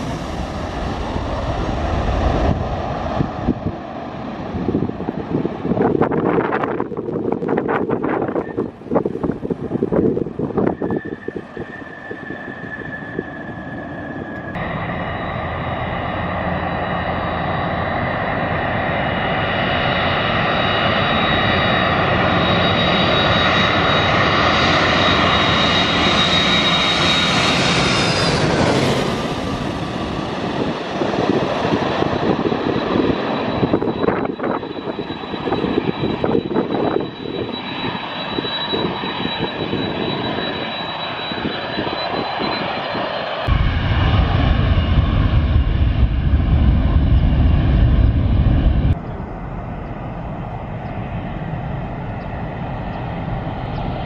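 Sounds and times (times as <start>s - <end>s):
jet airliner flying overhead: 0.0s - 54.0s.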